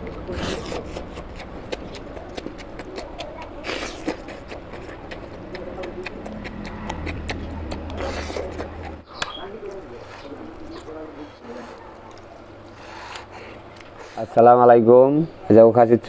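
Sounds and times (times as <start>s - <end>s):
low steady hum: 0.0s - 14.0s
wet sticky eating sounds: 0.0s - 14.2s.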